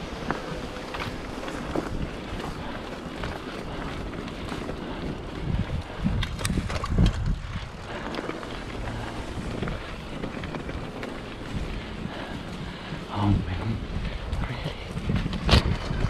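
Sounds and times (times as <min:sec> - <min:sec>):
bike knocks and rattles: 0:00.0 - 0:13.0, 0:13.6 - 0:16.0
mountain bike rumbling on dirt: 0:00.0 - 0:16.0
wind buffeting microphone: 0:00.0 - 0:16.0.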